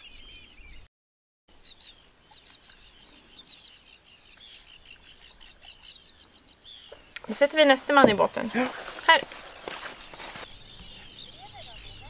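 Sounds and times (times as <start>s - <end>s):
faint bird chirping: 1.5s - 12.0s.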